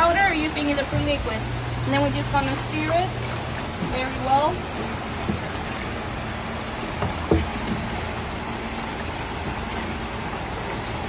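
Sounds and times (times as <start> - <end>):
water sloshing in plastic bin: 0.0 - 11.0.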